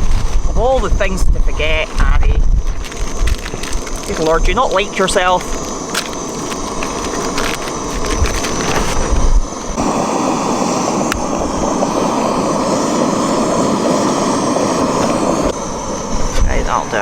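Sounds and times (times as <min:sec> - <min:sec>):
gas stove burner rushing: 0:00.0 - 0:17.0.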